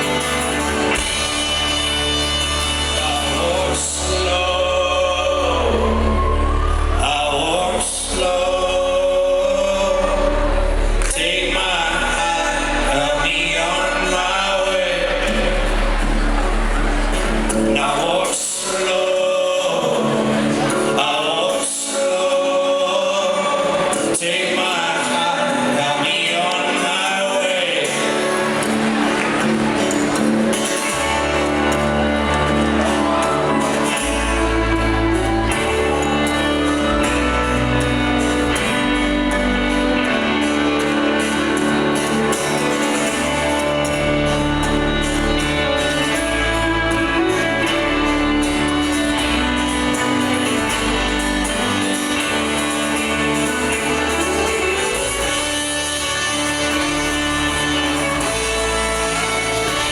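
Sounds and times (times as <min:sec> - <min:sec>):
strong bass notes: 0:00.0 - 0:18.6, 0:28.4 - 0:59.9
folk-rock band playing: 0:00.0 - 0:59.9
voices singing: 0:00.0 - 0:59.9.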